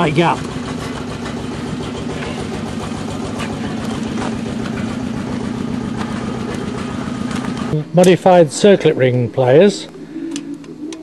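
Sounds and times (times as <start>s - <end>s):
machine motor humming: 0.0s - 11.0s.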